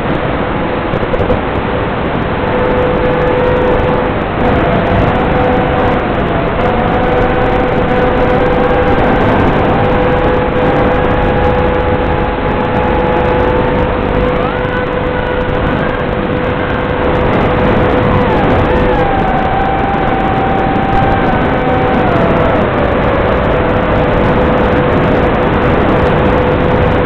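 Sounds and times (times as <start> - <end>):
heavy video feed hiss: 0.0 - 27.0
steady hum: 0.0 - 27.0
drone motors whining: 1.0 - 27.0.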